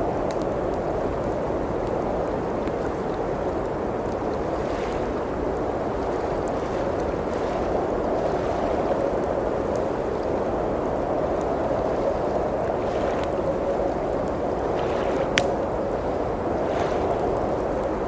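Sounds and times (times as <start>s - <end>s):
blizzard wind: 0.0s - 18.0s
wood fire crackling: 0.0s - 18.0s.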